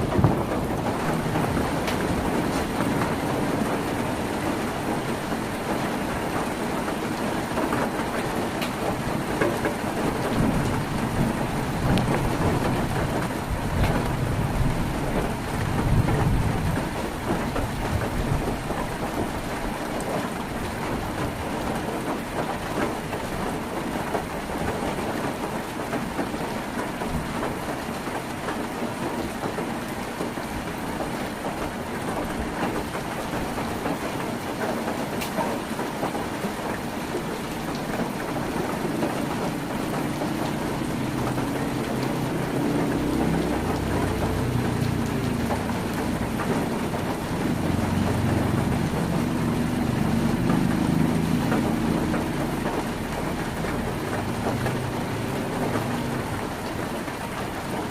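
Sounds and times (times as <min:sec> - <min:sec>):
heavy rain on a tin roof: 0:00.0 - 0:57.9.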